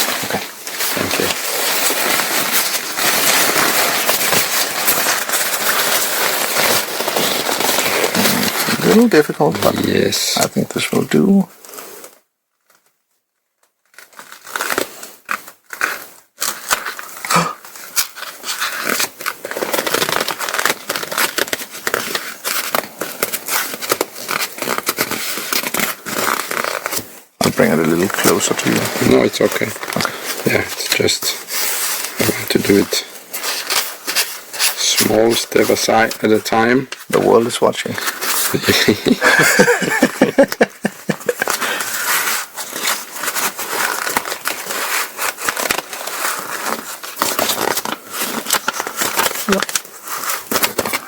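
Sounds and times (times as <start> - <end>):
sharp fabric crackles: 0.0 - 10.0, 13.9 - 51.0
nylon fabric crinkling: 0.0 - 10.5, 13.7 - 51.0.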